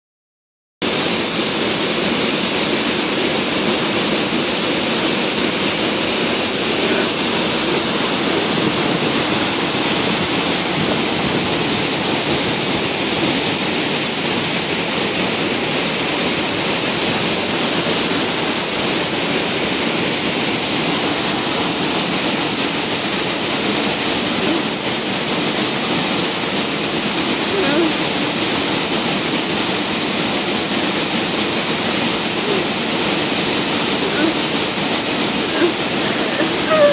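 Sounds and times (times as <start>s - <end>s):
waterfall rushing: 0.8s - 36.9s.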